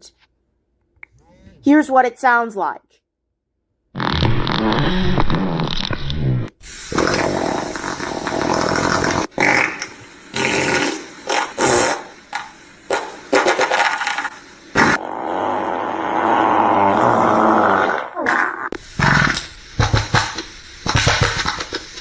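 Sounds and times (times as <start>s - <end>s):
fart noises: 3.9s - 21.8s.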